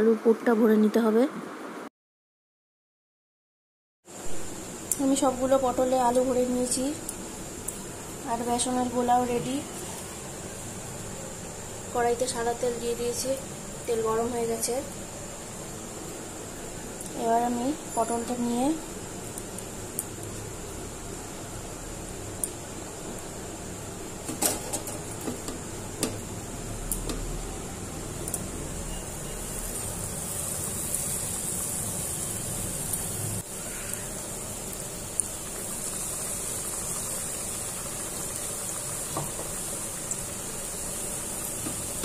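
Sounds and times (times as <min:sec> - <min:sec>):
food sizzling in hot oil: 0:04.1 - 0:42.0
steady background hum: 0:04.1 - 0:42.0.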